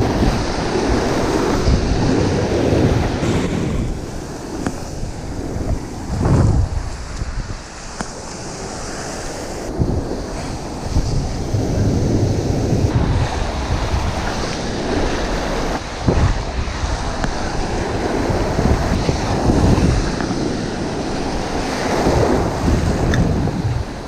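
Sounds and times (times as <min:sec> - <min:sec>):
ocean surf breaking: 0:00.0 - 0:24.0
wind buffeting microphone: 0:00.0 - 0:24.0.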